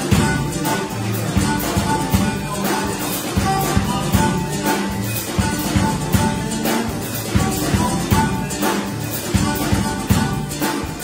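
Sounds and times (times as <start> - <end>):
drum kit rock beat: 0.0 - 11.0
harmonica held notes: 0.0 - 11.0
strummed acoustic guitar: 0.0 - 11.0.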